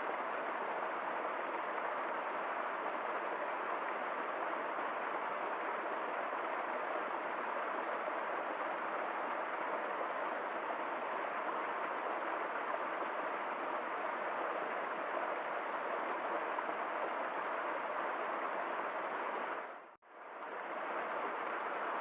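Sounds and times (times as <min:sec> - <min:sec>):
stream water flowing: 0:00.0 - 0:22.0.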